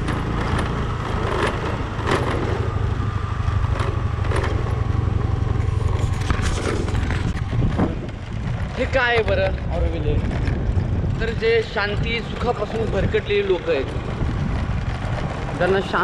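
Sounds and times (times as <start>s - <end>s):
clattering knocks over bumps: 0.0s - 16.0s
motor scooter droning: 0.0s - 16.0s.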